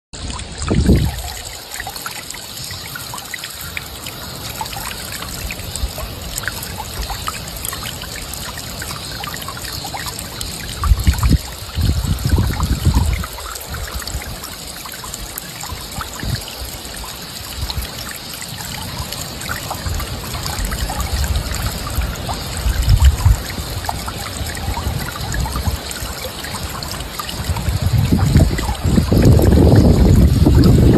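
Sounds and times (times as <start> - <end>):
water trickling: 0.2 - 30.9.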